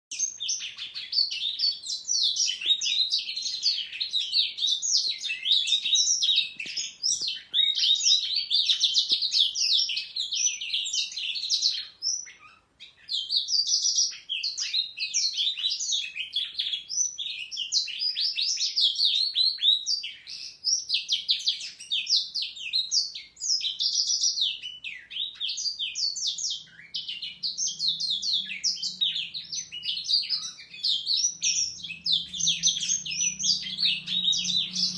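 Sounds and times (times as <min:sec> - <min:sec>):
canaries singing: 0:00.1 - 0:34.9.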